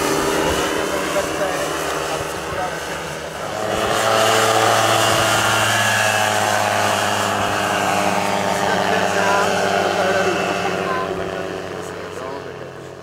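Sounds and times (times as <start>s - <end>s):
microlight engine hum flying past: 0.0s - 13.0s.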